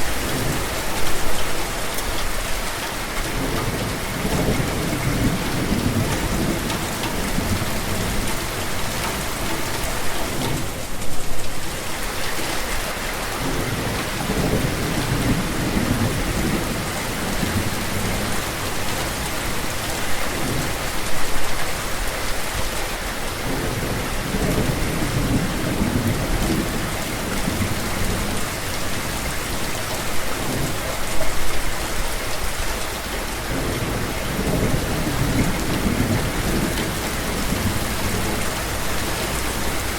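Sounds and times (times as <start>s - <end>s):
heavy rain pouring: 0.0s - 39.9s
rolling thunder rumbles: 3.2s - 11.9s, 13.3s - 22.1s, 23.4s - 32.2s, 33.3s - 39.9s.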